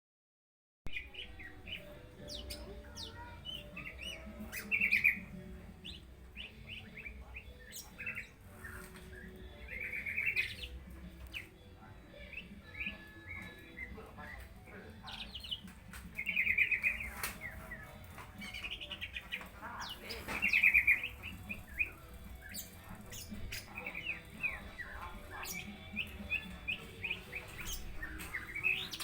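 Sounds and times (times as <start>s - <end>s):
songbird chirping and trilling: 0.9s - 29.0s.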